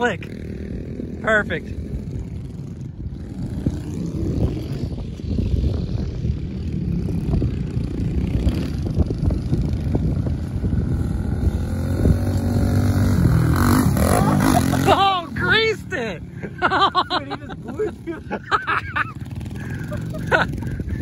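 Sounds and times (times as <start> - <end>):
small motorbike engines running: 0.0 - 21.0.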